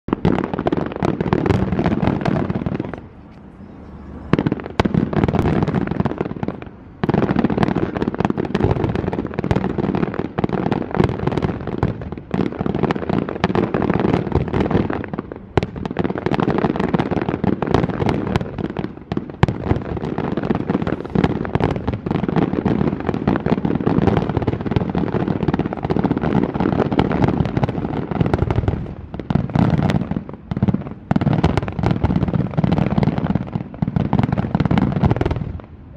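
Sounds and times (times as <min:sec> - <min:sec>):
fireworks bursting: 0:00.1 - 0:35.9.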